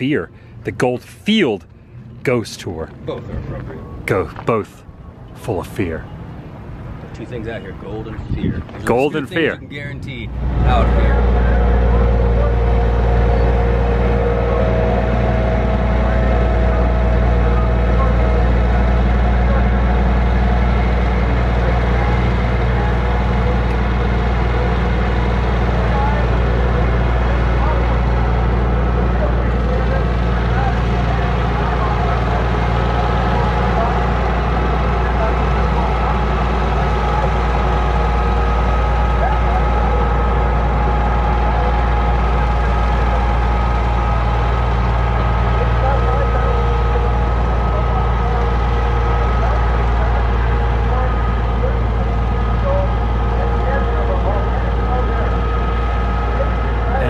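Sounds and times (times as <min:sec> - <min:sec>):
low mechanical rumble: 0:00.0 - 0:57.0
vehicle engine running: 0:00.0 - 0:57.0
whining tones: 0:00.0 - 0:57.0.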